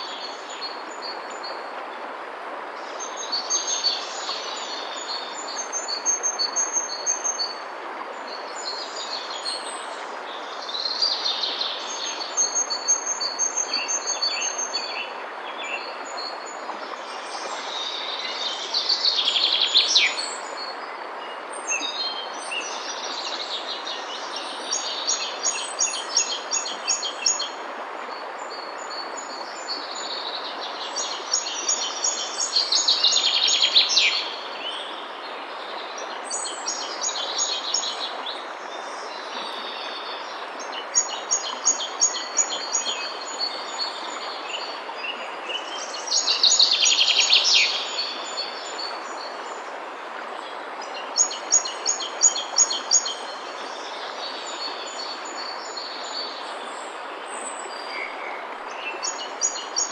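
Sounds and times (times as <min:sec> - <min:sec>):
fast stream over rocks: 0:00.0 - 0:59.9.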